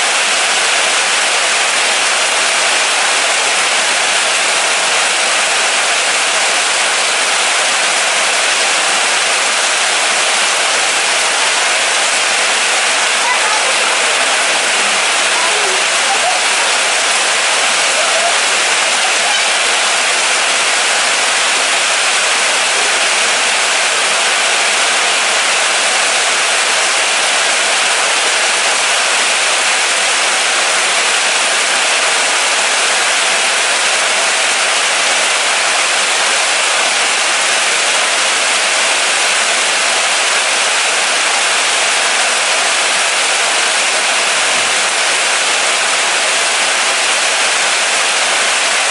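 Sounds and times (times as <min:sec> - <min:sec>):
moderate rain falling: 0:00.0 - 0:48.9.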